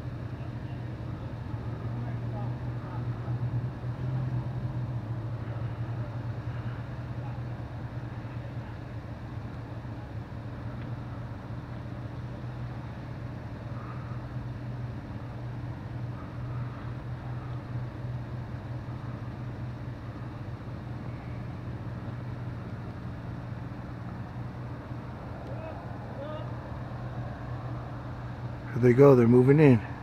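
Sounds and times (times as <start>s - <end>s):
vehicle engines idling: 0.0s - 30.0s.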